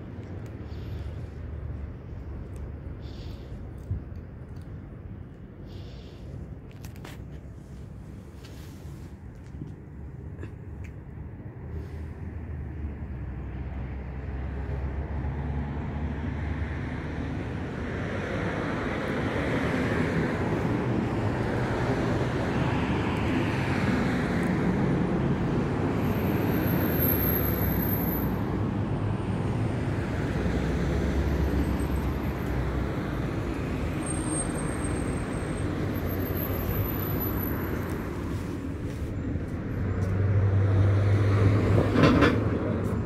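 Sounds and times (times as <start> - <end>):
passing car traffic: 0.0 - 43.0.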